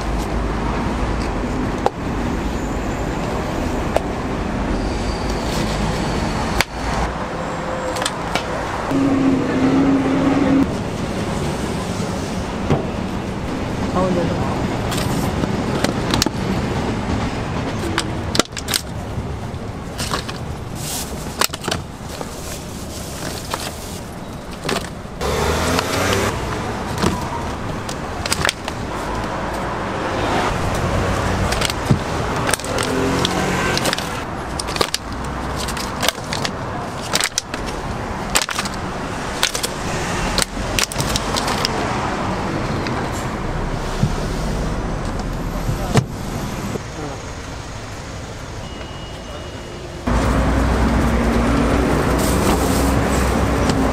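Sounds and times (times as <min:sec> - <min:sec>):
low traffic rumble: 0:00.0 - 0:53.9.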